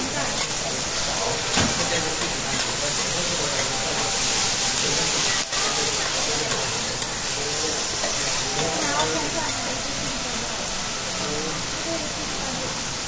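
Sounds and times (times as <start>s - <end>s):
cabbage sizzling on a hot griddle: 0.0s - 13.0s.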